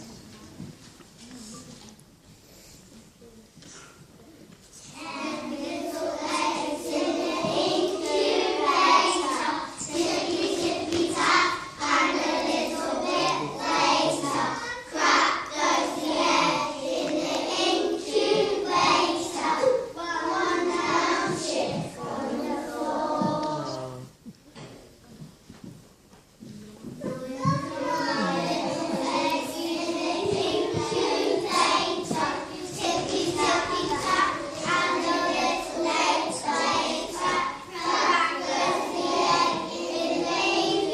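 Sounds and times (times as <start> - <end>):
children singing: 4.9 - 24.0, 27.1 - 40.9.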